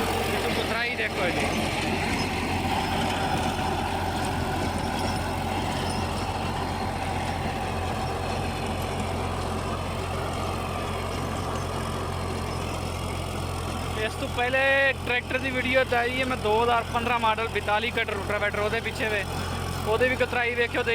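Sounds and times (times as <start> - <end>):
rotavator churning soil: 0.0 - 20.9
tractor engine running under load: 0.0 - 20.9.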